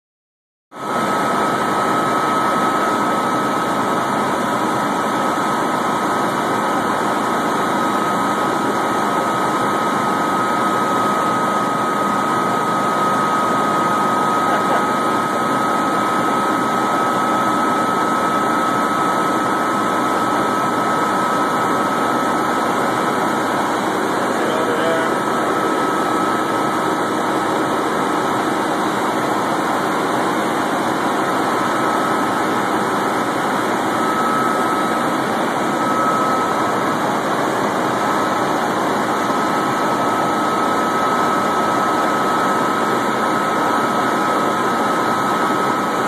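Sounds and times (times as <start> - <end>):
helicopter engine and rotor: 0.8 - 46.0
high whine: 0.8 - 46.0.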